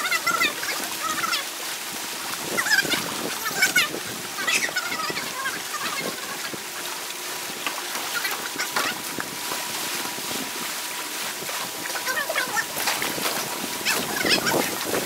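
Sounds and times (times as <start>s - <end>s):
people wading in water: 0.0s - 15.0s.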